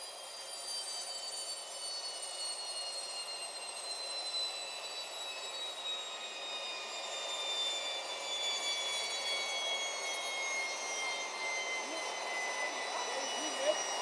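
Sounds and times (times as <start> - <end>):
jet engine turbine whine: 0.0 - 14.0.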